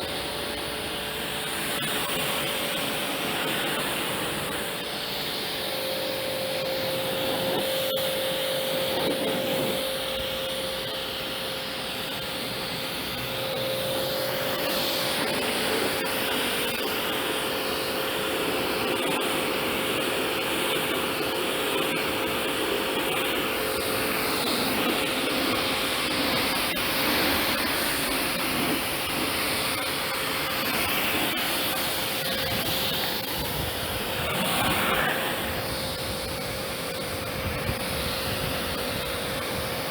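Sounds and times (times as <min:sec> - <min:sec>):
pressure washer motor whine: 0:00.0 - 0:39.9
water jet spraying: 0:00.0 - 0:39.9.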